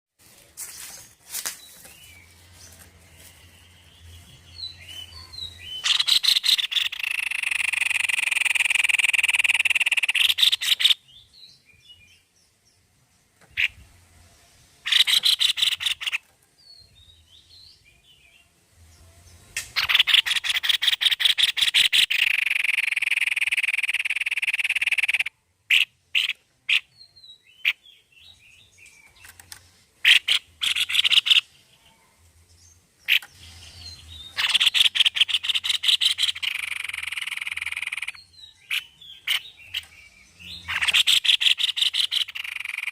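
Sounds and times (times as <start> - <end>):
soft bird chirps: 0.2 - 42.9
bird singing rattling trills: 0.8 - 12.2, 14.8 - 17.9, 19.2 - 31.5, 32.6 - 42.9.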